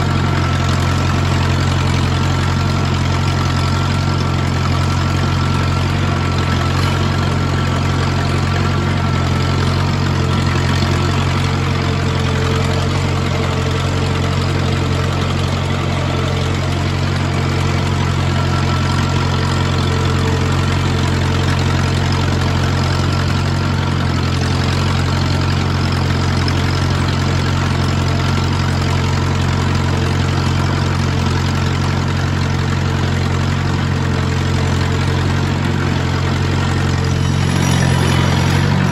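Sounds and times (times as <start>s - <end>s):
road grader engine running: 0.0s - 38.9s.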